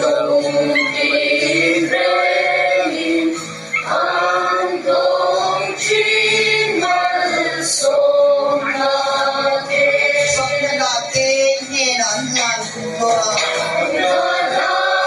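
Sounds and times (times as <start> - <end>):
acoustic guitar: 0.0 - 15.0
group of people singing: 0.0 - 15.0.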